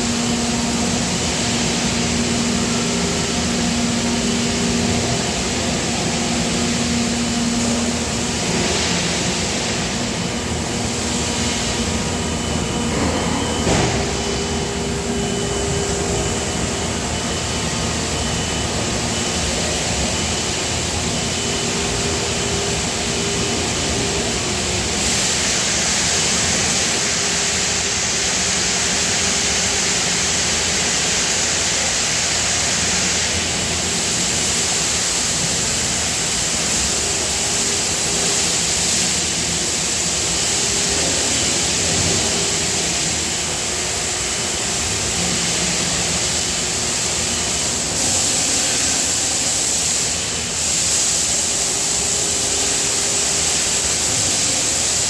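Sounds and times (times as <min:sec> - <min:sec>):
industrial machinery hum and hiss: 0:00.0 - 0:55.0.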